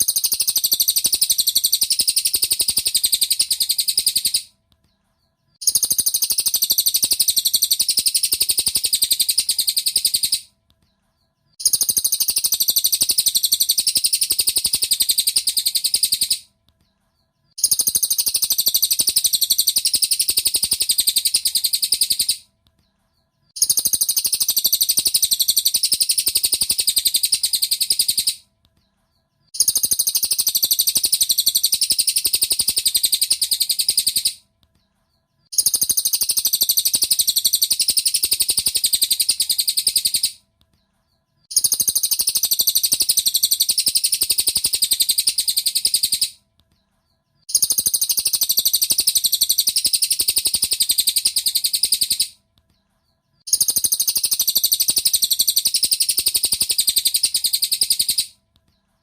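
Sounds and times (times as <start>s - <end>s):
bird chattering trill: 0.0s - 4.5s, 5.6s - 10.5s, 11.6s - 16.5s, 17.6s - 22.4s, 23.6s - 28.4s, 29.5s - 34.4s, 35.5s - 40.4s, 41.5s - 46.4s, 47.5s - 52.4s, 53.4s - 58.4s.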